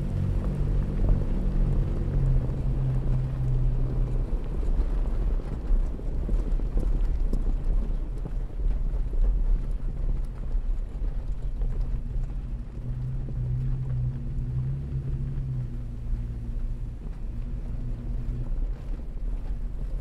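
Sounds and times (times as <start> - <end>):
truck engine hum: 0.0 - 20.0
wind buffeting microphone: 0.0 - 20.0.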